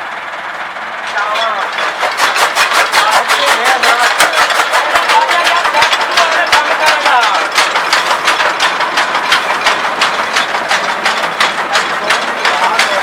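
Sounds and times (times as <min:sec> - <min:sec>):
tractor diesel engine running: 0:00.0 - 0:13.0
chaff cutter chopping: 0:01.6 - 0:13.0.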